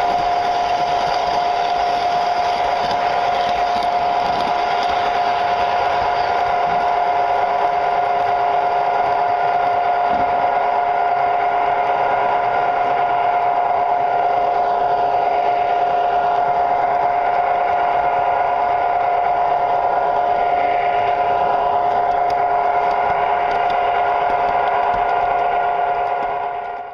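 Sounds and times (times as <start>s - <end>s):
model train motor whine: 0.0s - 26.9s
wheels rumbling on rails: 0.0s - 26.9s.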